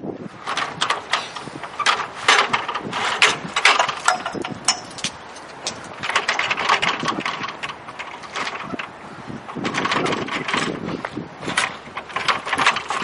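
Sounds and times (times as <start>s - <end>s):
ladder clicking and clanking: 0.4s - 13.0s.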